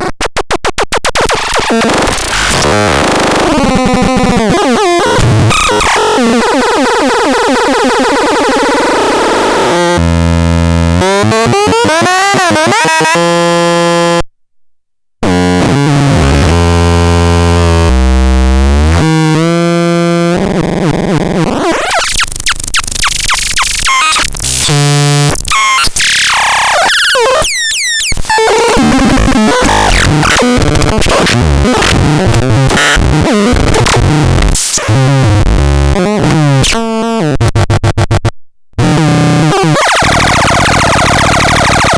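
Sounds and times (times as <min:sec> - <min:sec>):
buzzy synthesizer tones: 0:00.0 - 0:14.2, 0:15.2 - 0:41.9.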